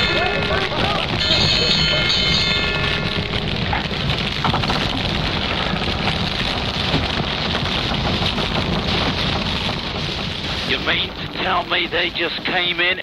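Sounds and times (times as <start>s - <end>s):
fire rushing and rumbling: 0.0s - 13.0s.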